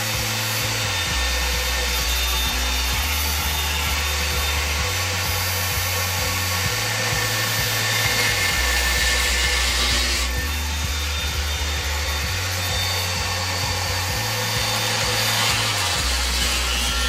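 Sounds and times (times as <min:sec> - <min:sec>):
electric drill grinding into tile: 0:00.0 - 0:17.0.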